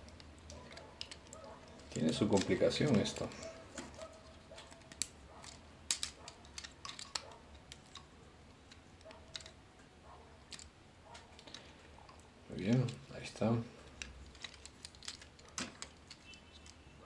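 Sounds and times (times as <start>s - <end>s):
plastic toy parts clicking: 0.0s - 9.6s, 10.4s - 13.2s, 13.8s - 16.8s.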